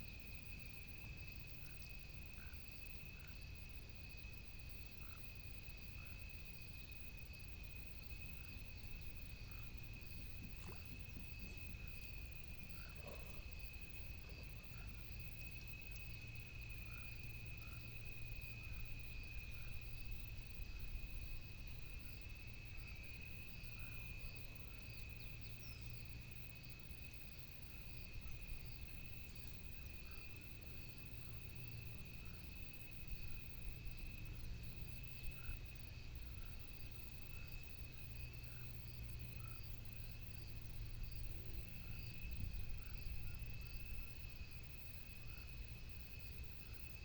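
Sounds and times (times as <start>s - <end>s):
insects trilling: 0.0s - 47.0s
short repeating insect call: 0.0s - 47.0s.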